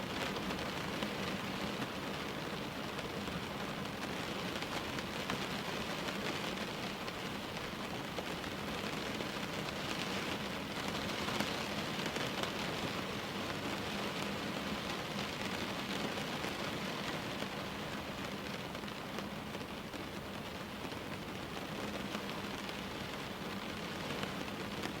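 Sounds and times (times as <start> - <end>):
rain hissing at window: 0.0 - 25.0.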